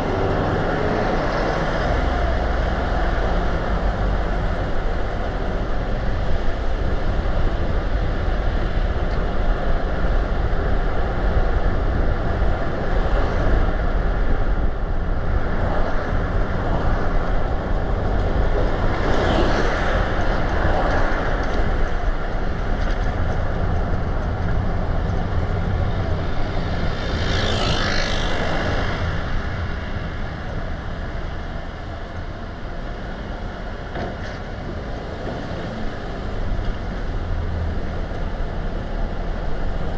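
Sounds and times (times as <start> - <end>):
car road and wind noise: 0.0 - 39.9
passing traffic rushing: 0.0 - 39.9.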